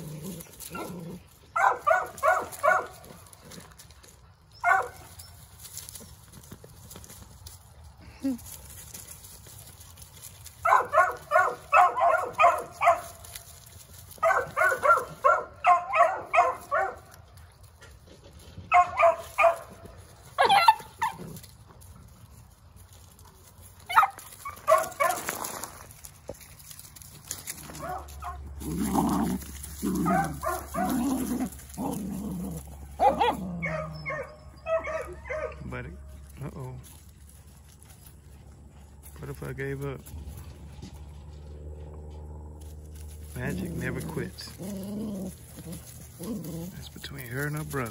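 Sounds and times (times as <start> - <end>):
puppies barking and yipping: 0.0 - 7.6, 8.6 - 36.4, 40.2 - 47.9.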